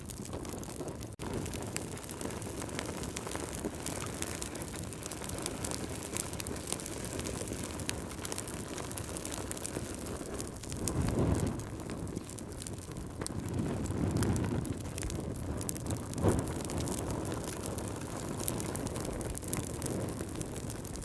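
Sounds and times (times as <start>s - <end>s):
fire burning low rush: 0.0s - 21.0s
fire crackles and pops: 0.0s - 21.0s.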